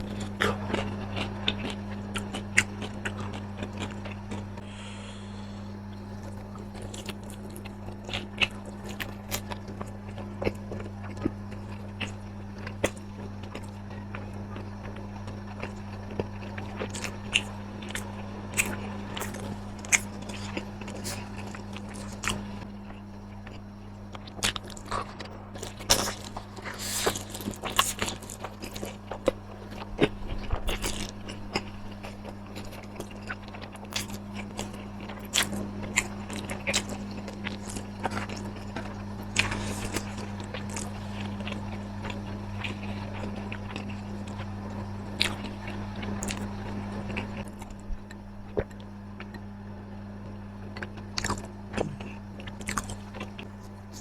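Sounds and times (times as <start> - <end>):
crunching and chewing crisp food: 0.0 - 54.0
steady low hum: 0.0 - 54.0.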